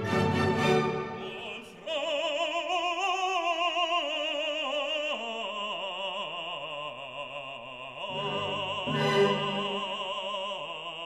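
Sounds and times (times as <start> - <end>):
operatic voice singing: 1.0 - 11.0.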